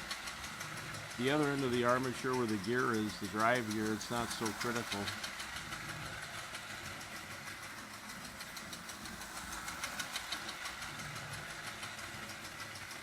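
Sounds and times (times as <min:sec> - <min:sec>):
fast even ticking: 0:00.0 - 0:13.0
toy train motor hum: 0:00.0 - 0:13.0.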